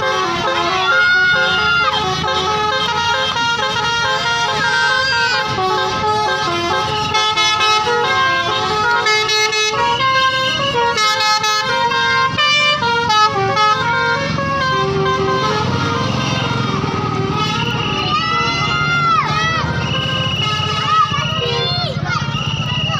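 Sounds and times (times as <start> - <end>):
multi-tone air horn tune: 0.0 - 21.8
bus engine running: 0.0 - 22.9.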